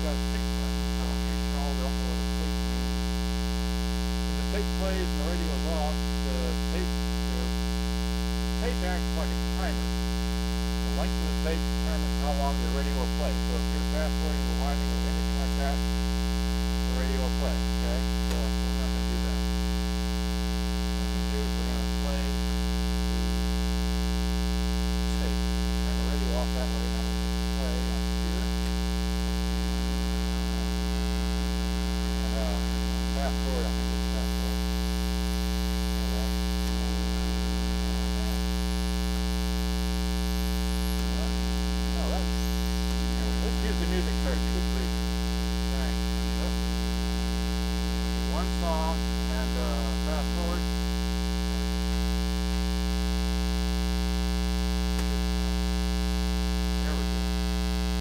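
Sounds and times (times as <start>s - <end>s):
mains hum: 0.0s - 58.0s.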